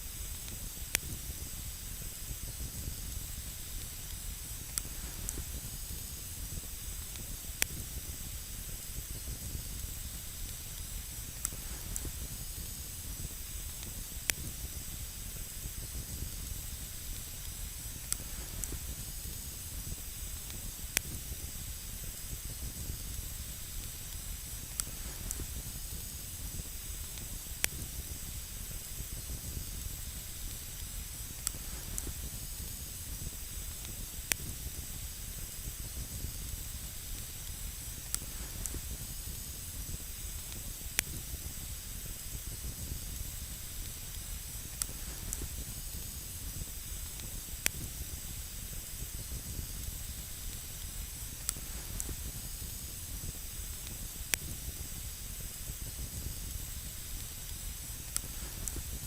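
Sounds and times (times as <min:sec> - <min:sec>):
fire hissing: 0:00.0 - 0:59.0
campfire crackling: 0:00.1 - 0:59.0.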